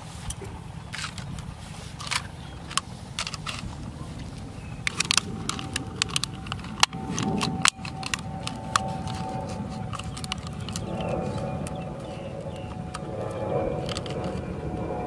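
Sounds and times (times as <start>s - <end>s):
fan guards clicking and rattling: 0.0s - 14.9s
wind on microphone: 0.0s - 15.0s.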